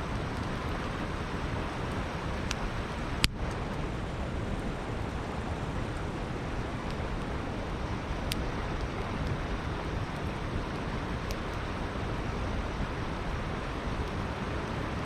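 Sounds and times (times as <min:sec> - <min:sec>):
campfire crackling and popping: 0:00.0 - 0:15.0
river rushing: 0:00.0 - 0:15.0.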